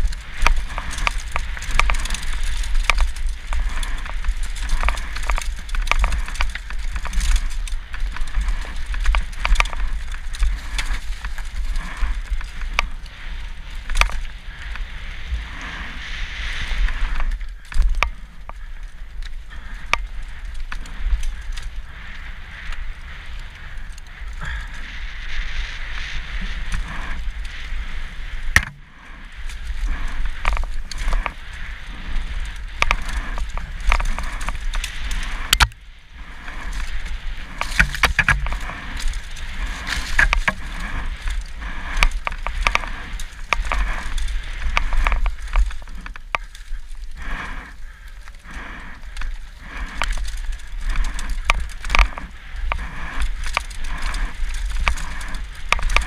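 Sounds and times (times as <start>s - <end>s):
bike rattling: 0.0s - 56.0s
bike tyres crunching on gravel: 0.0s - 56.0s
steady low rumble: 0.0s - 56.0s.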